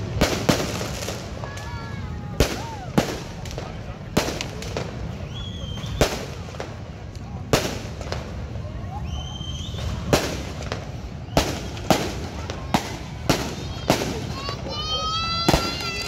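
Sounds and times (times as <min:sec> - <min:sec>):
faint fireworks pops: 0:00.0 - 0:16.0
fireworks bangs: 0:00.0 - 0:16.0.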